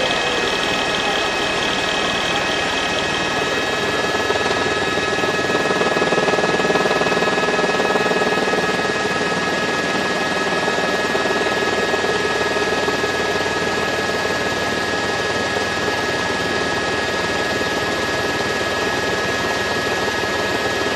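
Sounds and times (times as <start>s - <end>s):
helicopter engine whine: 0.0s - 20.9s.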